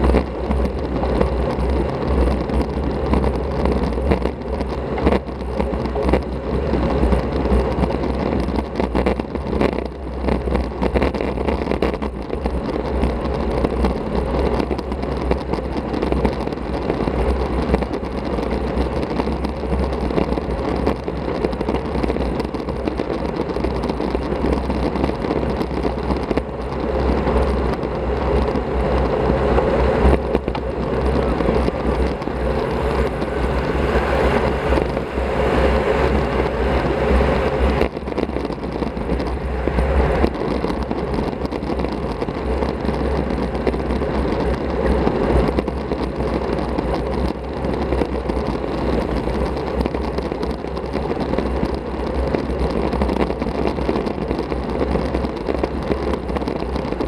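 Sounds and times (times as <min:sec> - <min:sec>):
bicycle tyre road noise: 0:00.0 - 0:57.0
wind rush on microphone: 0:00.0 - 0:57.0.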